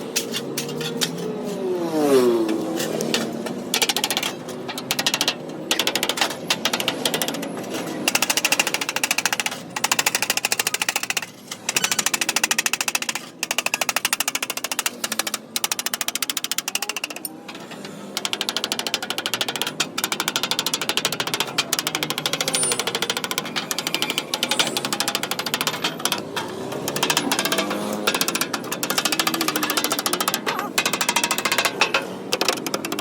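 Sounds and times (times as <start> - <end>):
small machine clattering: 2.9 - 33.0.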